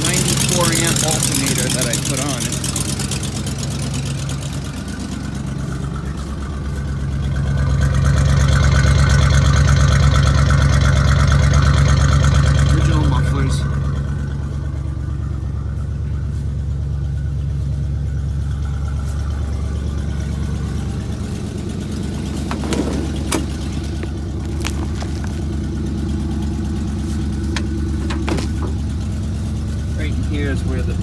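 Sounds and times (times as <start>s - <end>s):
engine idling with leaky exhaust: 0.0s - 31.0s.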